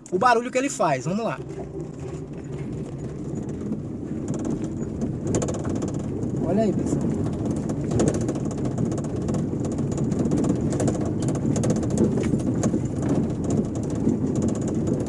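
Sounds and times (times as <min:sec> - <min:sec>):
car road and engine noise: 0:00.0 - 0:15.0
rattling knocks: 0:00.8 - 0:15.0.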